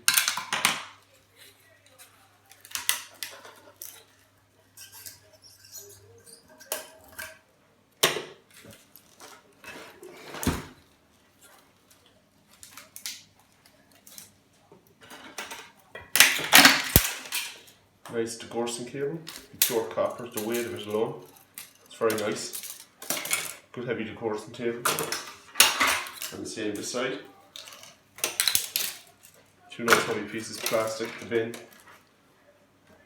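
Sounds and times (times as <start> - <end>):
metal and plastic parts rattling: 0.0 - 7.4, 8.0 - 17.8, 19.3 - 23.8, 24.8 - 32.1.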